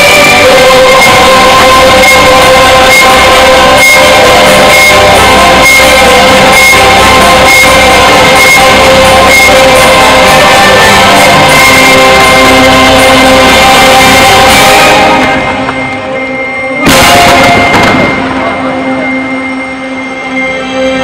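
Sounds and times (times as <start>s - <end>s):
loud music with regular beat: 0.0s - 19.3s.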